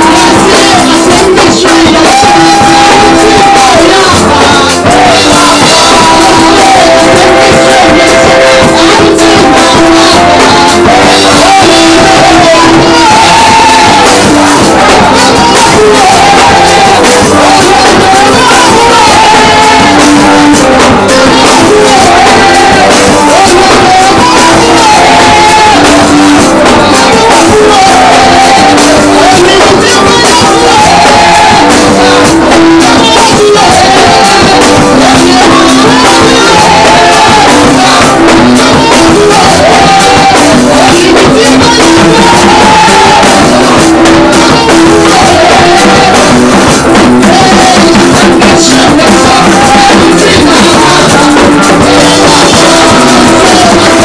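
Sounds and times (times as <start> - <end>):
congregation shouting: 0.0 - 54.0
singers with band: 0.0 - 54.0.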